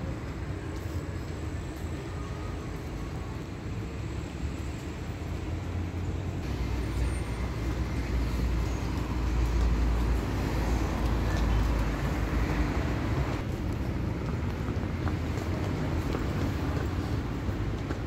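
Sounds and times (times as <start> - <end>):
road traffic rumble: 0.0 - 18.0
street noise: 0.0 - 18.0.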